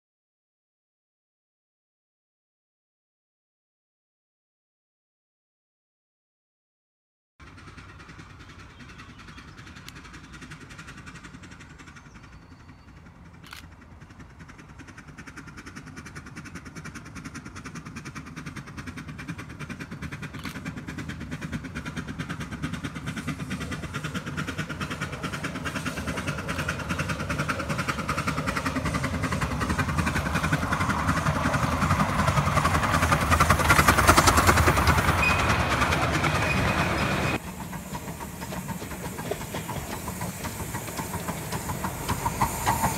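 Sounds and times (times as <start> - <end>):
steam locomotive chuffing: 7.4 - 42.9
train wheels rattling: 7.4 - 42.9.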